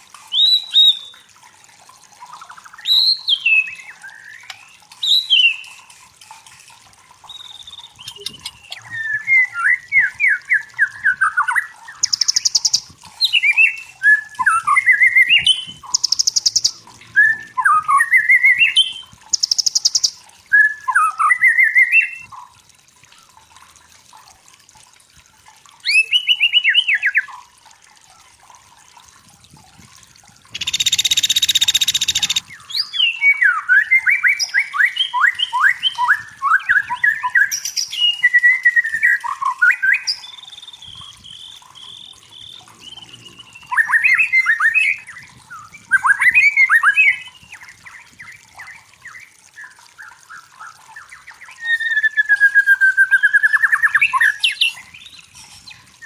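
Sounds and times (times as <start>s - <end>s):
bird whistling and trilling: 0.3s - 1.2s, 2.7s - 5.8s, 7.2s - 22.3s, 25.8s - 27.3s, 30.5s - 55.9s.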